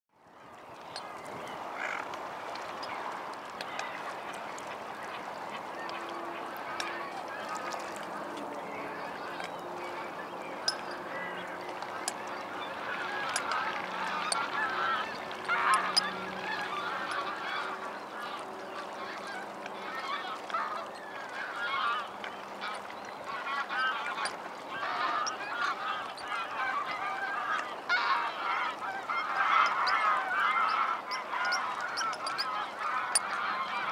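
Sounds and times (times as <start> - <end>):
gulls calling: 0.8 - 33.9.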